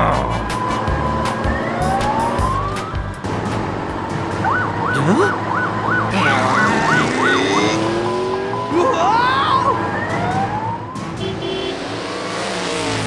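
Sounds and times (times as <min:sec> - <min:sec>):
emergency vehicle siren: 0:00.6 - 0:13.0.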